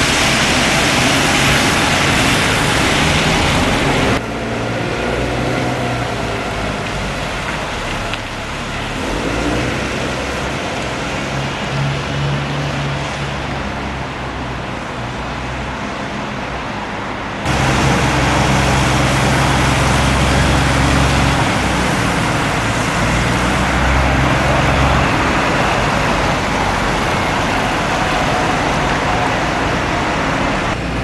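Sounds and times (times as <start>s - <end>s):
traffic noise: 0.0s - 31.0s
vehicle engines running: 0.0s - 31.0s.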